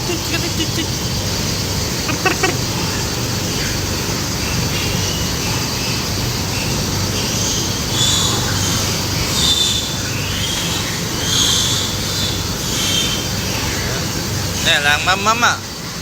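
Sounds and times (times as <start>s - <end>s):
pigs squealing: 0.0s - 15.5s.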